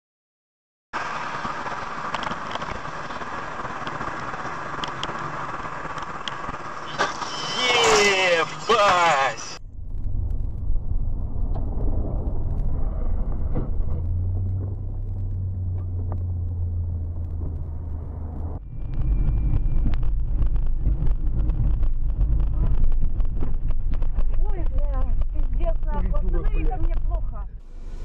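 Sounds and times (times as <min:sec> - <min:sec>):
car road and engine hum: 0:01.0 - 0:28.0
rough low rumble: 0:01.0 - 0:28.0.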